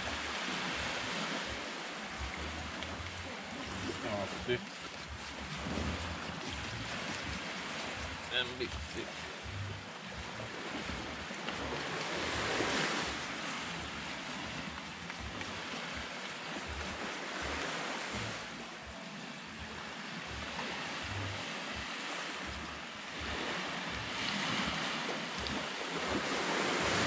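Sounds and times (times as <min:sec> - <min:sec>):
surf washing on shore: 0:00.0 - 0:27.0.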